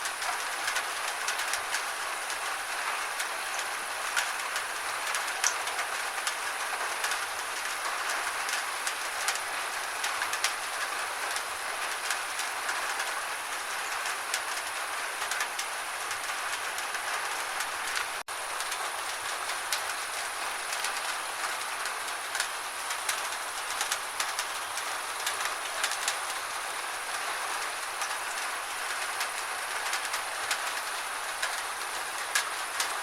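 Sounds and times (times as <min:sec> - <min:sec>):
gentle rain with ticking drops: 0:00.0 - 0:33.0.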